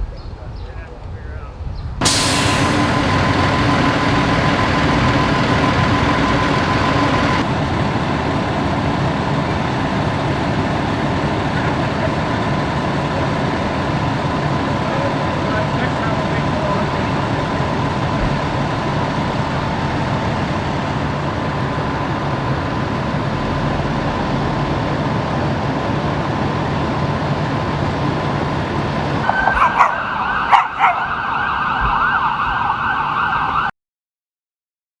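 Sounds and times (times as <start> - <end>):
emergency vehicle siren: 2.0 - 33.7
idling engines and traffic: 2.0 - 33.7.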